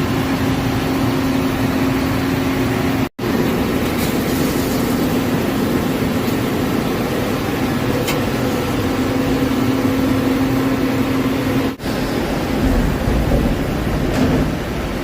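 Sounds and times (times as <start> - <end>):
lathe machine hum: 0.0 - 15.0.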